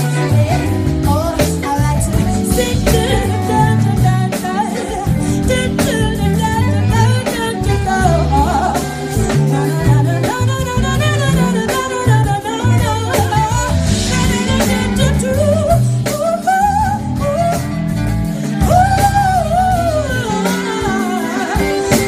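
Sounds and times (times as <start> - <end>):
live band playing: 0.0 - 22.0
woman singing: 0.0 - 22.0.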